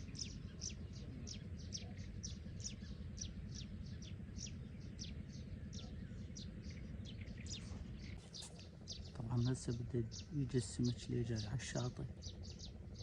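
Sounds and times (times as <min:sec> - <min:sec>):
bird chirping: 0:00.0 - 0:13.0
steady low rumble: 0:00.0 - 0:13.0.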